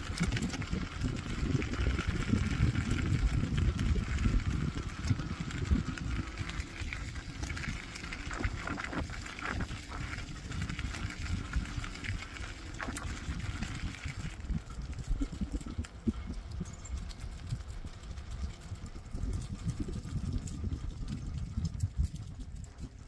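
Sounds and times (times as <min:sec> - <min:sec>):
tyres rolling over dirt: 0:00.0 - 0:20.0
wind rumbling on microphone: 0:00.0 - 0:23.0.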